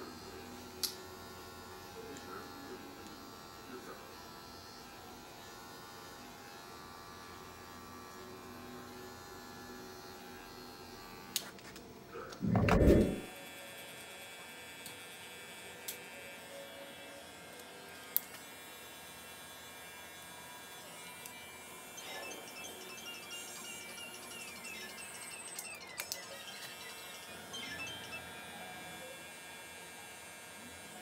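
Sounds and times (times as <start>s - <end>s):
electric hair clippers buzzing: 0.0s - 11.4s, 12.9s - 31.0s.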